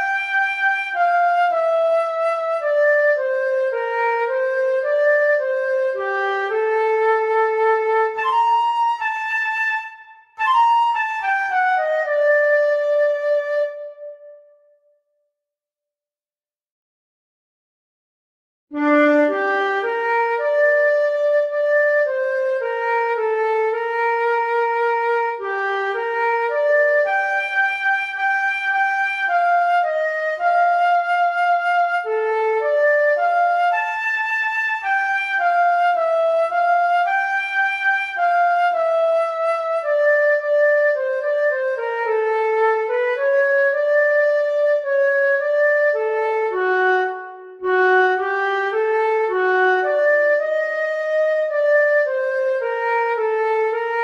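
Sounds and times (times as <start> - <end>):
flute playing slow waltz: 0.0 - 14.8, 18.8 - 54.0.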